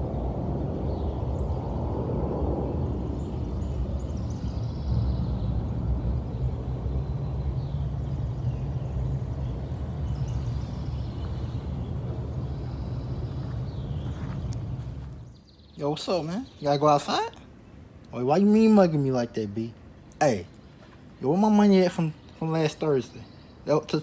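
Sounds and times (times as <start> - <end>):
birds chirping: 0.0 - 24.0
low machine hum: 0.0 - 24.0.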